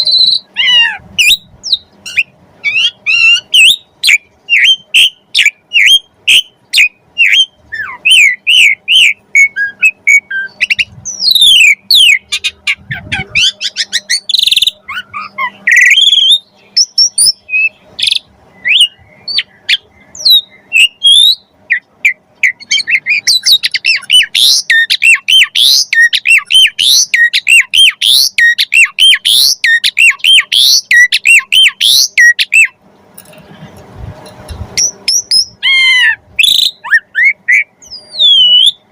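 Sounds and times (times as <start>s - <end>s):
starling singing: 0.0s - 32.8s, 34.4s - 38.9s.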